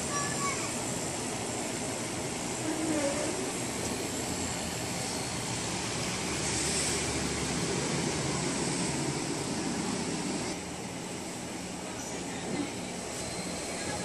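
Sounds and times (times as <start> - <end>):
air conditioner fan whirring: 0.0 - 14.0.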